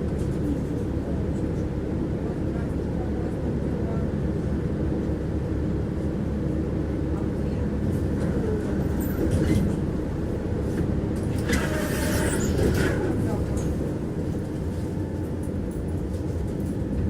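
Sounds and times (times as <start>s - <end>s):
tram wheels rumbling on track: 0.0s - 17.0s.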